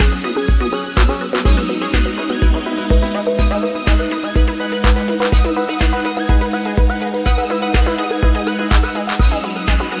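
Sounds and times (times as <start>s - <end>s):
deep kick drum: 0.0s - 9.9s
upbeat instrumental music: 0.0s - 10.0s.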